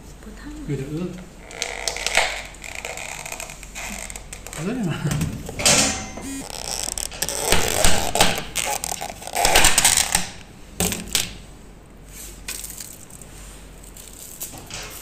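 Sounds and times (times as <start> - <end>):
food containers clicking and rustling: 1.5 - 11.4, 12.4 - 15.0.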